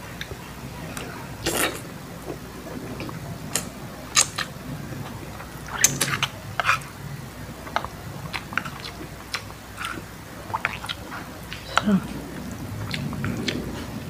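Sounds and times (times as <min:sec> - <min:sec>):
chewing food: 0:00.1 - 0:14.0.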